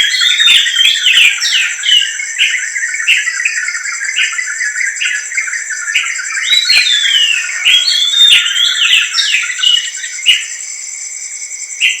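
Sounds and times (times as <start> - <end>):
birds chirping and calling: 0.0 - 10.6
crickets trilling: 0.0 - 12.0.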